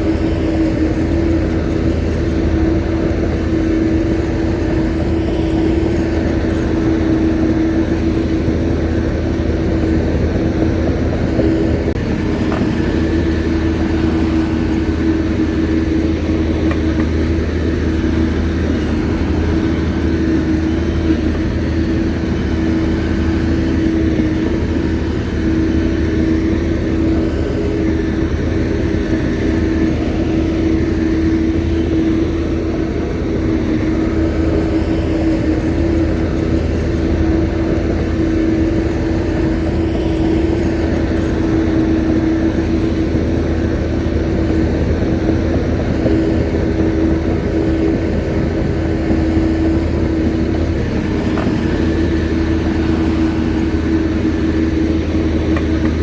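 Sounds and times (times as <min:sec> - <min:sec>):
bulldozer diesel engine humming: 0:00.0 - 0:56.0.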